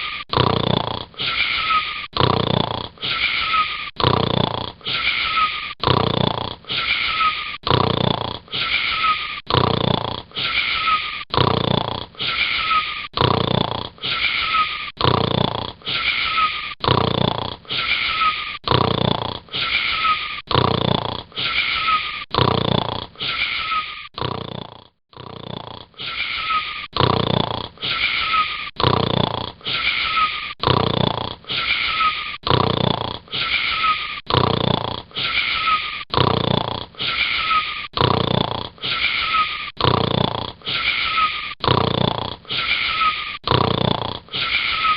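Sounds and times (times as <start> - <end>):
short wheezy snores: 0.0 - 44.9.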